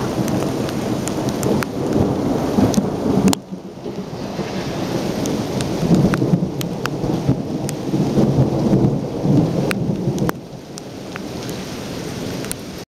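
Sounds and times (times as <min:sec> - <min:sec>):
thunder rumbling: 0:00.0 - 0:10.6
raindrops hitting camera: 0:00.0 - 0:12.8
heavy rain: 0:00.0 - 0:12.9.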